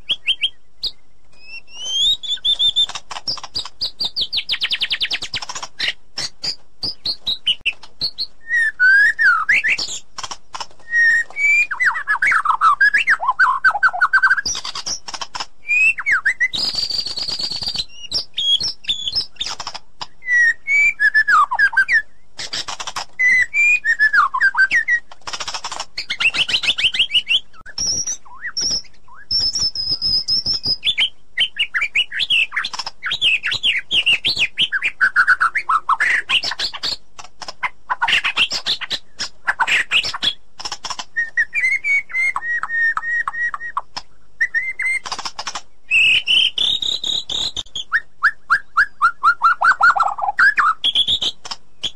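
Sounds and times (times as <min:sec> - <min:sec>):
bird singing varied song: 0:00.0 - 0:51.9.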